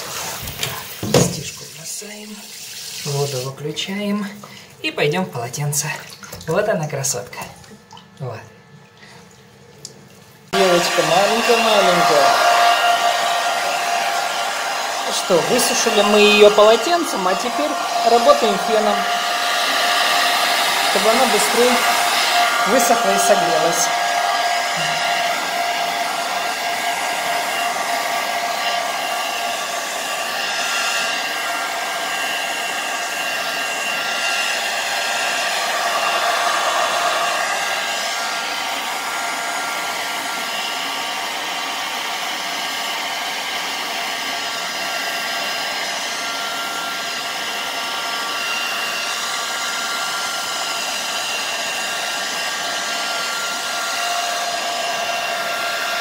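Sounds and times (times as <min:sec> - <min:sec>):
hair dryer blowing: 0:00.0 - 0:05.9, 0:10.5 - 0:56.0.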